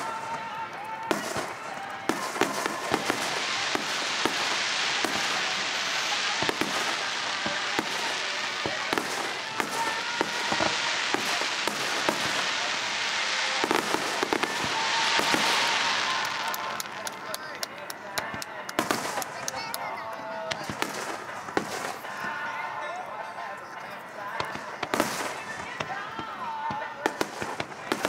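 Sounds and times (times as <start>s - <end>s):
firework bangs: 0.0s - 22.6s, 24.2s - 28.0s
fireworks crackling: 0.0s - 28.0s.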